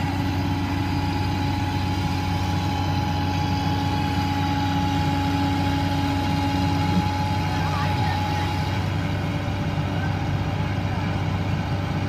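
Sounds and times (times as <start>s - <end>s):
excavator diesel engine running: 0.0s - 12.0s
steady whine: 0.0s - 12.0s.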